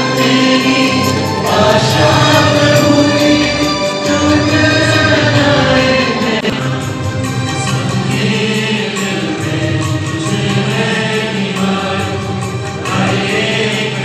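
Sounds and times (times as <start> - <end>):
voices singing a hymn: 0.0 - 14.0.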